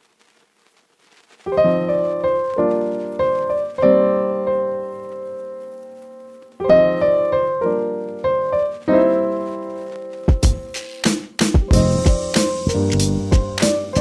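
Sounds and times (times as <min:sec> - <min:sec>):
piano music: 0:01.5 - 0:14.0.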